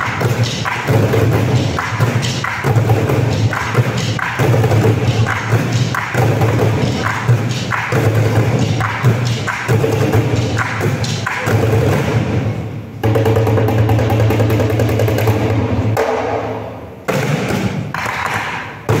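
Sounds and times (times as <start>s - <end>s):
fast drum roll: 0.0s - 16.2s
percussion ensemble drumming: 0.0s - 19.0s.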